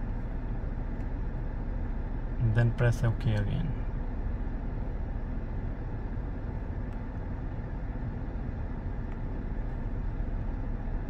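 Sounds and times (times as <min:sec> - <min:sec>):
car idling heard from cabin: 0:00.0 - 0:11.0.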